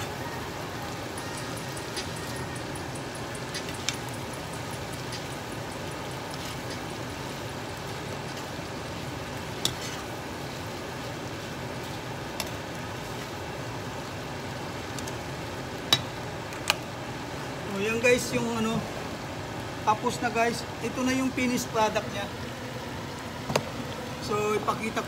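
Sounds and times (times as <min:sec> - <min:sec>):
food sizzling in a skillet: 0:00.0 - 0:25.0.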